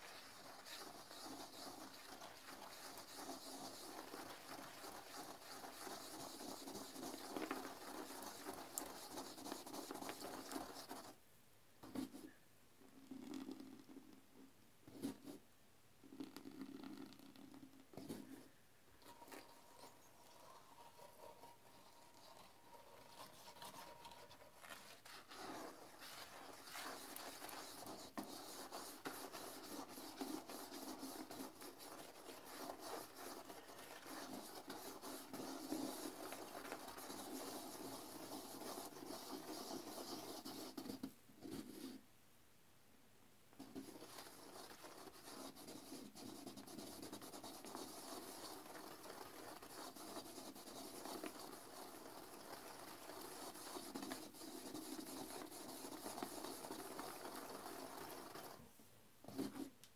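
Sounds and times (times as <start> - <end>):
toilet brush scrubbing: 0.0 - 11.1, 19.0 - 42.0, 43.6 - 58.6.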